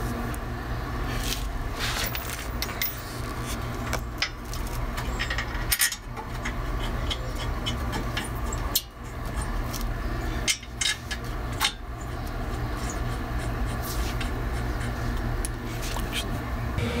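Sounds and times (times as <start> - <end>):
metal clicks and scrapes: 1.2 - 16.3.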